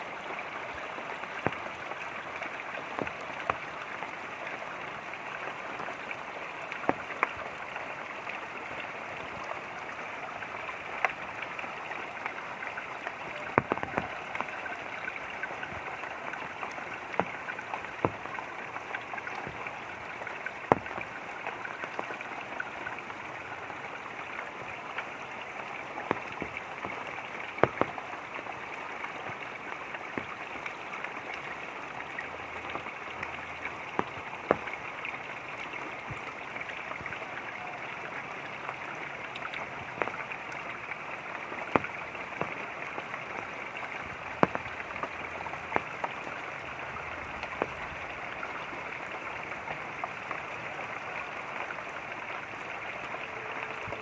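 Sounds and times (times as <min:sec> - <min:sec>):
light rain: 0:00.0 - 0:54.0
running water: 0:00.0 - 0:54.0
water drops ticking: 0:00.0 - 0:54.0.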